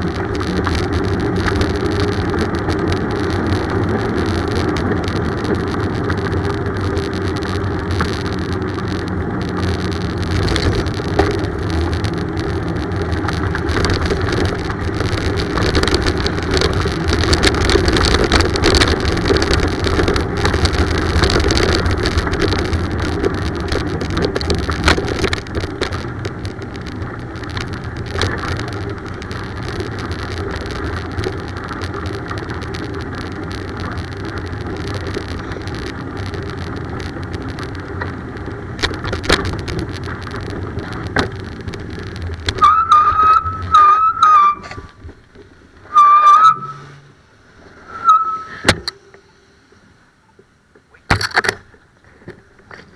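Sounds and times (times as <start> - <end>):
small clicks and rattles: 0.0 - 46.8, 50.3 - 52.9
wind and road noise from cycling: 0.0 - 52.9.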